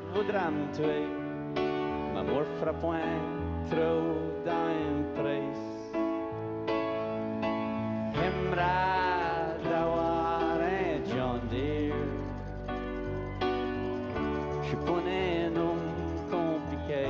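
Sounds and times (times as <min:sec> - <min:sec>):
live band playing country song: 0:00.0 - 0:06.0, 0:06.8 - 0:17.0.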